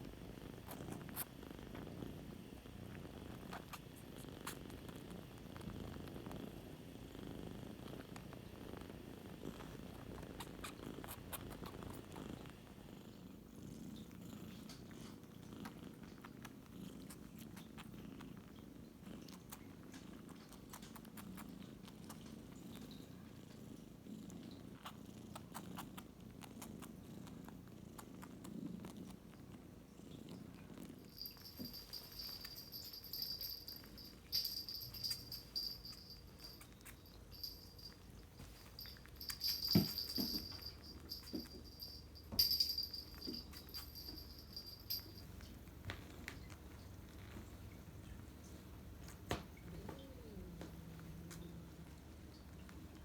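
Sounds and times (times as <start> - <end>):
kitten purring: 0.0 - 53.0.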